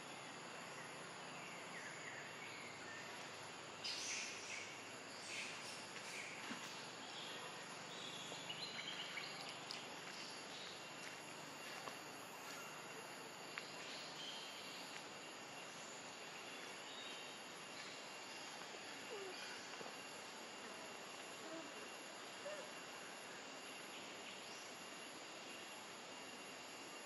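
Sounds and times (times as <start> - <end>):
faint chirps: 0.0 - 27.0
soft hiss: 0.0 - 27.0.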